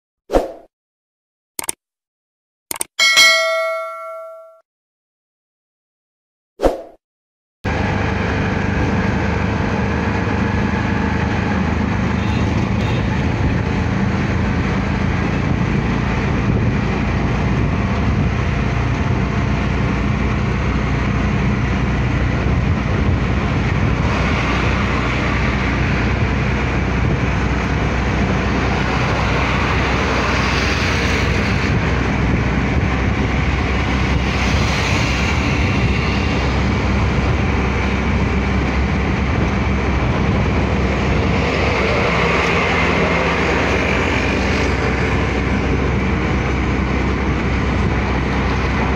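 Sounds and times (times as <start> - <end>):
auto-rickshaw engine running: 7.7 - 48.9
bus passing close: 7.7 - 48.9
road and wind noise: 7.7 - 48.9.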